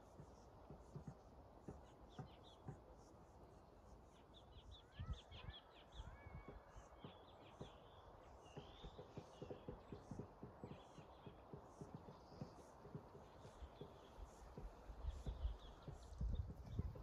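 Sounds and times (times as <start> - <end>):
faint songbird chirps and whistles: 0.1 - 17.0.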